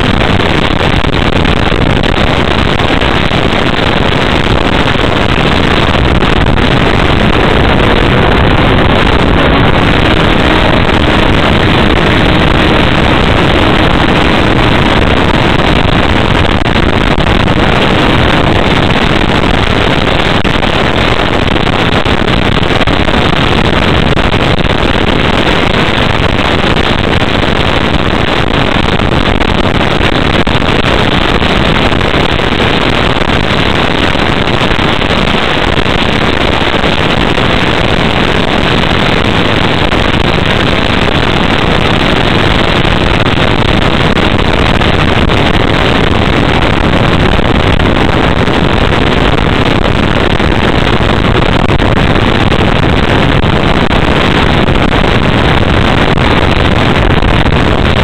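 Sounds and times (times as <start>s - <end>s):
model glider flight noise: 0.0s - 58.0s.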